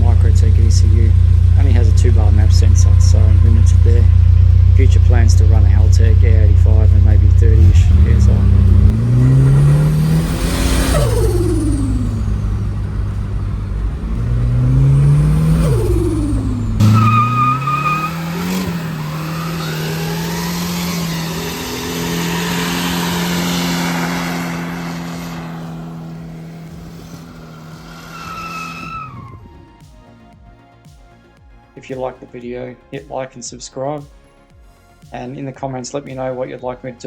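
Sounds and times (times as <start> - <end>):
engine revving hard: 0.0 - 29.7
tyres squealing: 0.0 - 29.7.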